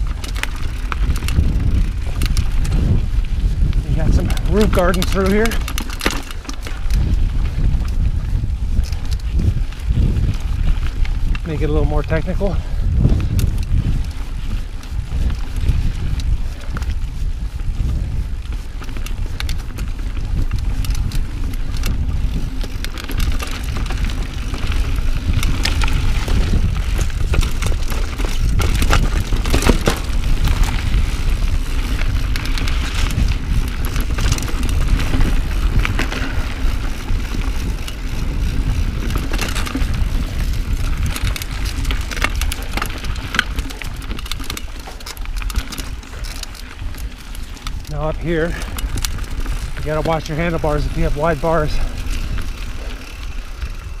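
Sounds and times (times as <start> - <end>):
bike clattering over roots: 0.0 - 54.0
tyres rumbling on dirt trail: 0.0 - 54.0.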